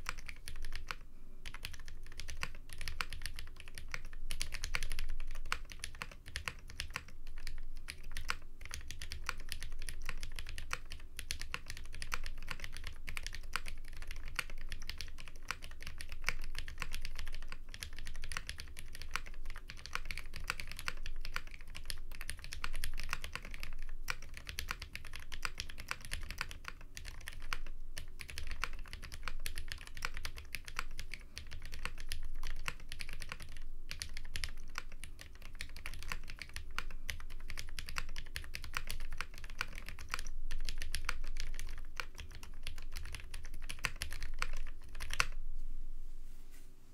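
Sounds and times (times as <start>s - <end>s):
mechanical keyboard typing: 0.0s - 45.4s.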